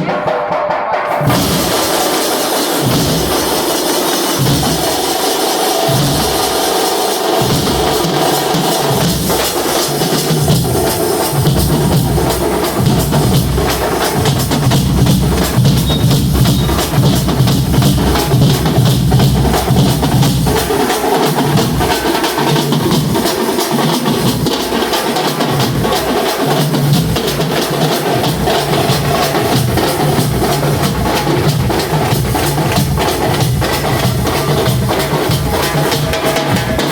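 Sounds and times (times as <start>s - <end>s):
deep booming drum beats: 0.0s - 24.8s, 25.4s - 36.9s
drums beaten in fast rhythm: 0.0s - 36.9s.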